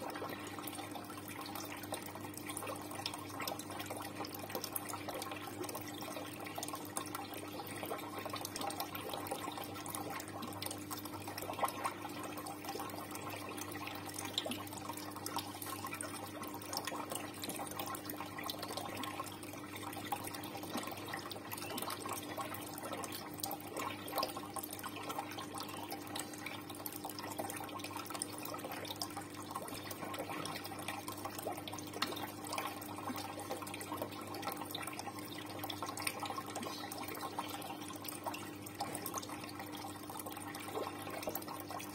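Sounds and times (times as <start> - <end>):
running and trickling water: 0.0 - 41.9
water dripping and splashing: 0.0 - 41.9.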